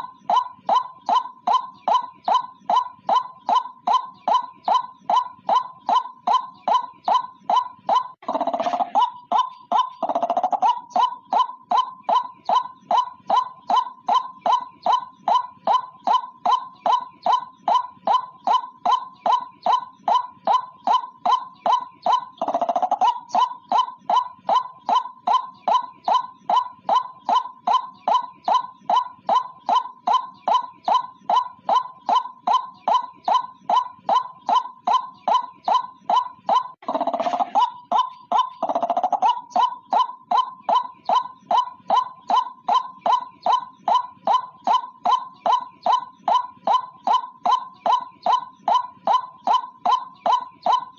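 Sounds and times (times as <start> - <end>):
harsh croaking bird calls: 0.0 - 50.9.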